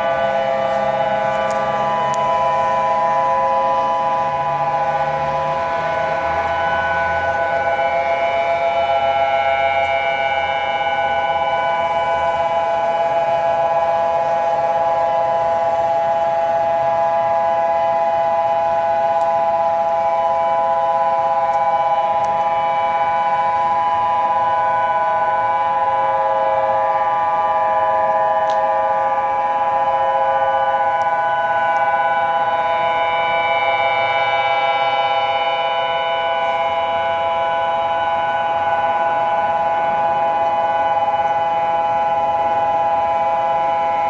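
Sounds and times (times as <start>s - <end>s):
siren-style alarm chord: 0.0s - 44.0s.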